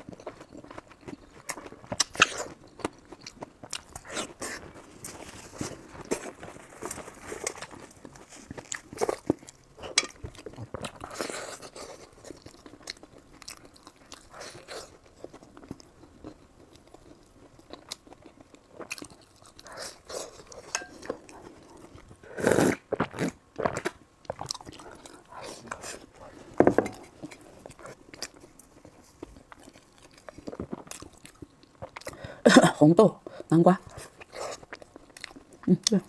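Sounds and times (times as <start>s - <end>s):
person chewing crunchy food: 0.0s - 32.4s, 33.2s - 36.0s.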